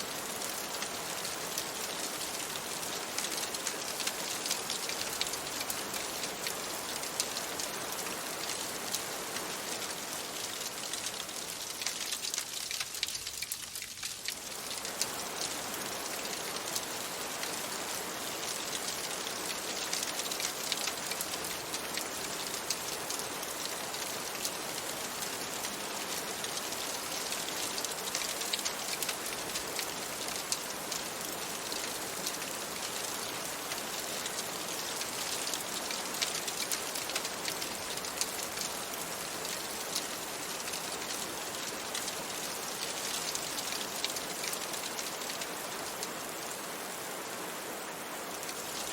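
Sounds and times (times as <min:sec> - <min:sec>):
rain on window glass: 0:00.0 - 0:46.9, 0:48.2 - 0:48.9.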